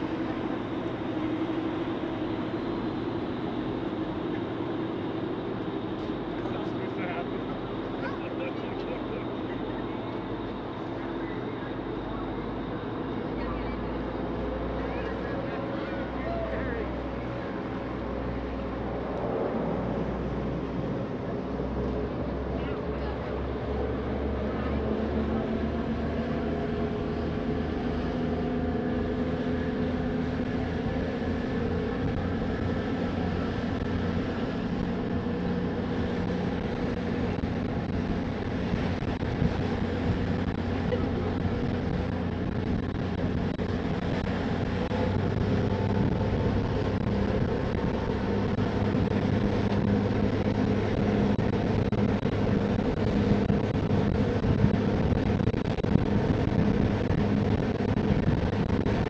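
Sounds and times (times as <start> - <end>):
ferry engines droning: 0.0 - 59.0
rushing water wash: 0.0 - 59.0.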